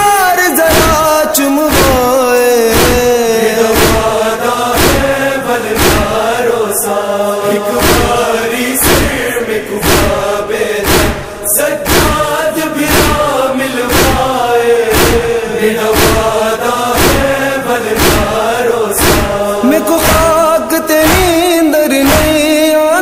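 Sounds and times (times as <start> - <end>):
men chanting a lament: 0.0 - 23.0
chest beating slaps: 0.5 - 7.0, 7.6 - 22.6.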